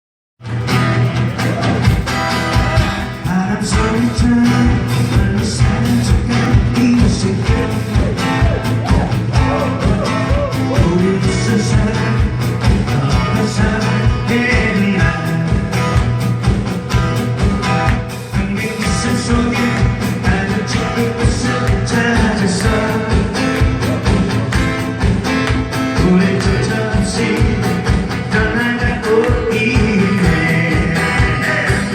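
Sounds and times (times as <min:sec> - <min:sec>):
live band music: 0:00.4 - 0:31.9.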